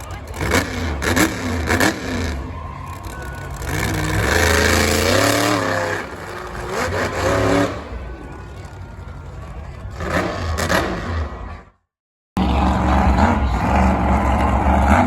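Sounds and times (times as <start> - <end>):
truck engine revving: 0.0 - 11.8, 12.4 - 15.0.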